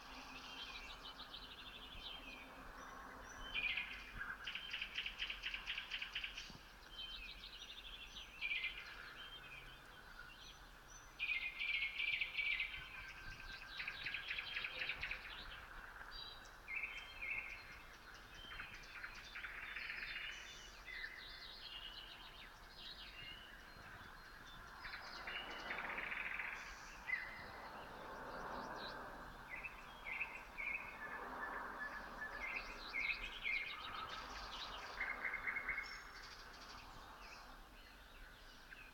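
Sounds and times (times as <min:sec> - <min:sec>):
faint background birdsong: 0:00.0 - 0:38.9.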